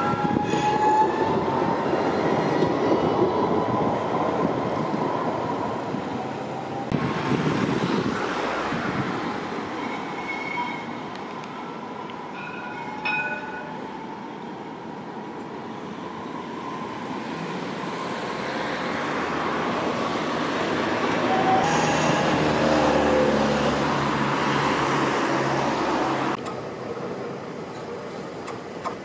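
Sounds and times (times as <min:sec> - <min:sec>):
street ambience: 0:00.0 - 0:29.0
tram passing: 0:00.0 - 0:29.0.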